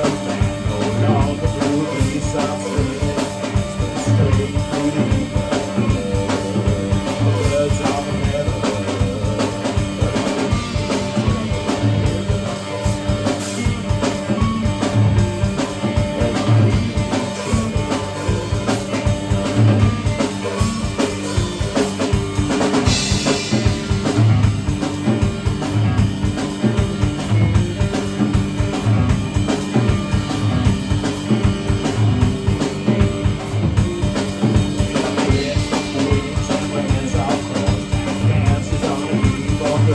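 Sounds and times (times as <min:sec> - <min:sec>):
drum rimshots: 0:00.0 - 0:39.9
guitar sustained notes: 0:00.0 - 0:39.9.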